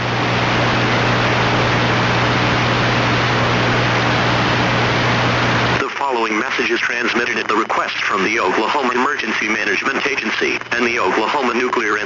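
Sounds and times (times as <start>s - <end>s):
low electrical hum: 0.0s - 12.0s
static hiss: 0.0s - 12.0s.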